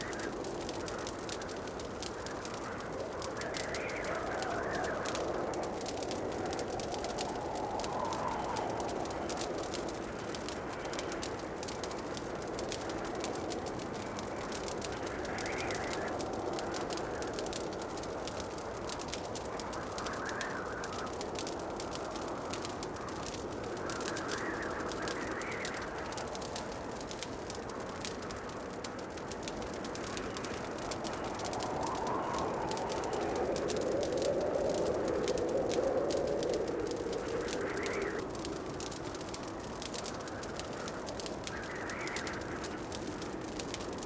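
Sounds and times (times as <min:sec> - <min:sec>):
flames rushing: 0:00.0 - 0:44.0
wood fire crackling: 0:00.0 - 0:44.0.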